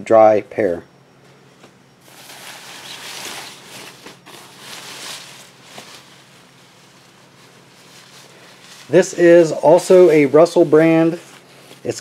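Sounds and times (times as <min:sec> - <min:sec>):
fabric rustling: 0:02.0 - 0:12.0.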